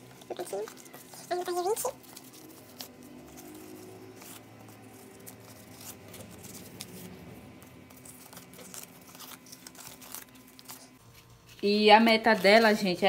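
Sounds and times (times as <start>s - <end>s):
banknotes rustling: 0.0s - 13.0s.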